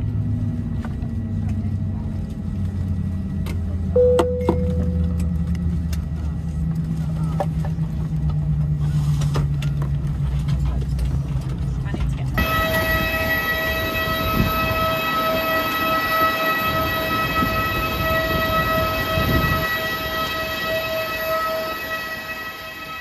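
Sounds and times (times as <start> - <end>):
aircraft auxiliary power unit whining: 0.0 - 23.0.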